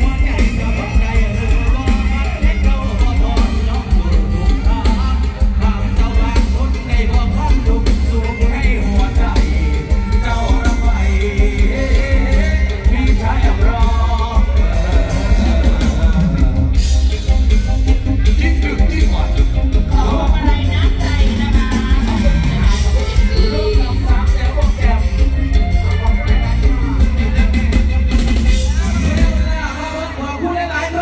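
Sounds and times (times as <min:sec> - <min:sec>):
band music through loudspeakers: 0:00.0 - 0:31.0
heavy pulsing bass: 0:00.0 - 0:31.0
person singing: 0:00.0 - 0:31.0.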